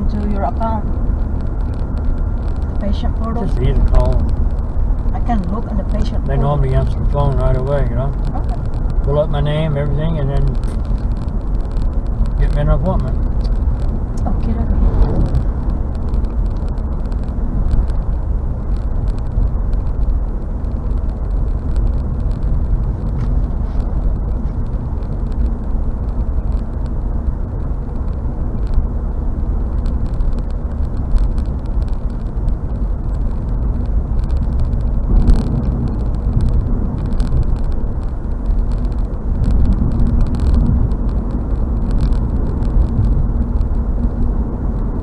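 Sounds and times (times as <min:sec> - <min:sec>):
car road noise drone: 0:00.0 - 0:45.0.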